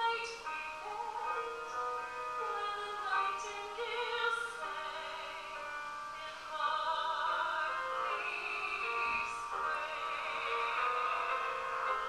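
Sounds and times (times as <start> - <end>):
woman singing a slow ballad: 0.0 - 1.8, 2.4 - 12.0.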